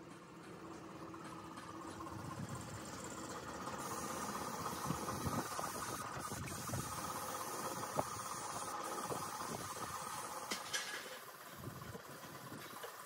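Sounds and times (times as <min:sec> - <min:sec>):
machinery running: 0:00.0 - 0:13.0.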